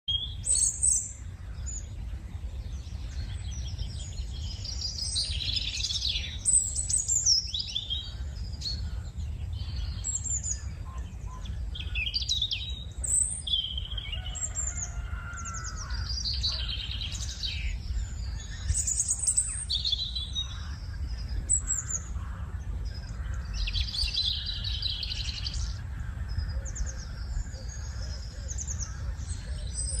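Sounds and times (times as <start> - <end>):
birds chirping and trilling: 0.1 - 30.0.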